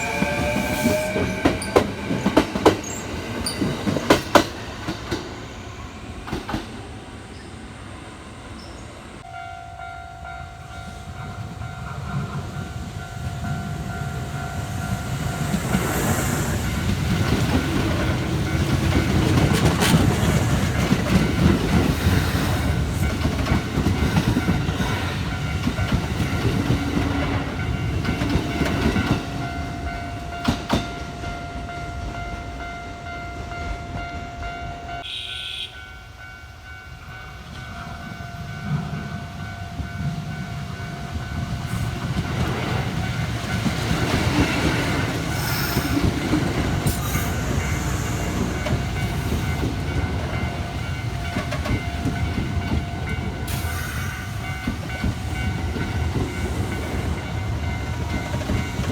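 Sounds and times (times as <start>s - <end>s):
trains rumbling over rail joints: 0.0s - 58.9s
level crossing warning bell: 8.6s - 19.6s, 20.3s - 58.9s.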